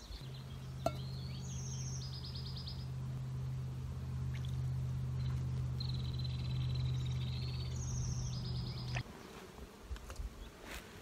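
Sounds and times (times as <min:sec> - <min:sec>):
birds singing trills: 0:00.0 - 0:09.3
steady low hum: 0:00.0 - 0:10.5.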